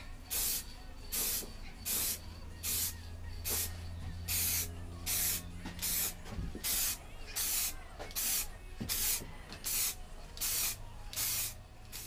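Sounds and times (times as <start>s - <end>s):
spray paint can hissing: 0.3s - 12.0s.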